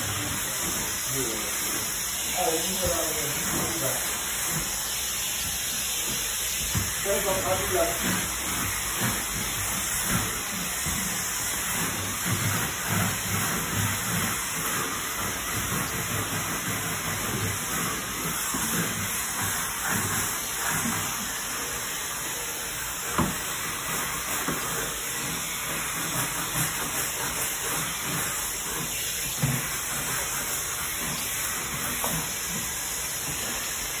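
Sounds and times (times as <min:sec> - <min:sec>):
brush scrubbing tile: 0:00.0 - 0:34.0
steam cleaner hissing: 0:00.0 - 0:34.0.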